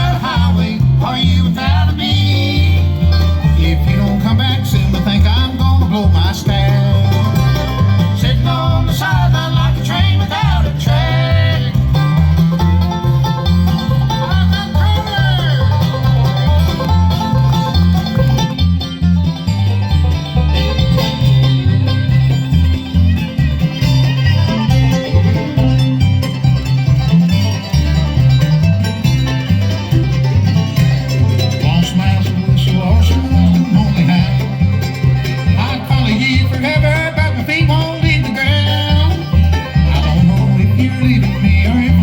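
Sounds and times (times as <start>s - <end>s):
banjo: 0.0s - 42.0s
bluegrass band playing: 0.0s - 42.0s
pulsing bass rhythm: 0.0s - 42.0s.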